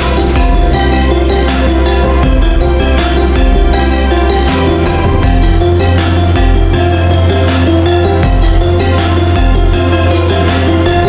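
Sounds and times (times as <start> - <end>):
background music with bass and beat: 0.0 - 11.0.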